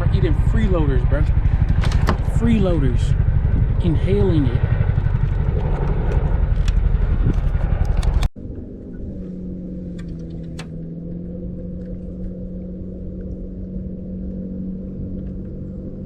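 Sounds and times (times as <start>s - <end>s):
boat motor running steadily: 0.0s - 16.0s
low rumble: 0.0s - 16.0s.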